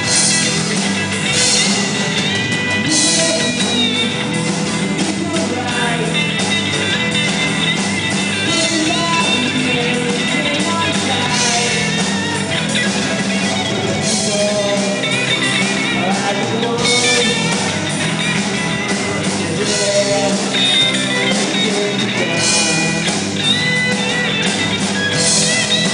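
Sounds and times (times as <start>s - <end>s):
guitar: 0.0s - 25.9s
rock band playing: 0.0s - 25.9s
person singing: 1.6s - 7.4s, 8.4s - 24.4s.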